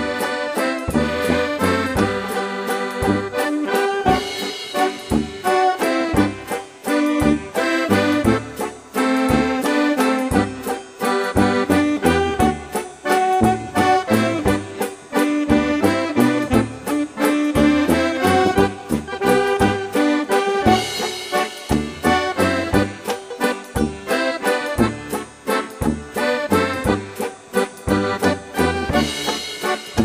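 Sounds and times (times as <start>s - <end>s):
accordion melody: 0.0s - 30.0s
tuba bass notes: 0.0s - 30.0s.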